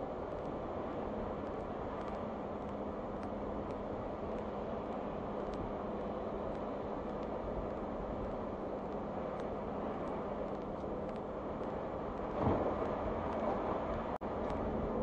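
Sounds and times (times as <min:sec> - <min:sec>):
tyres on slushy road: 0:00.1 - 0:15.0.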